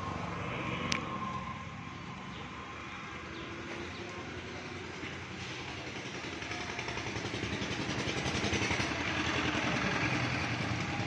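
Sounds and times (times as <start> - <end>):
passing vehicle rumble: 0.0 - 11.0.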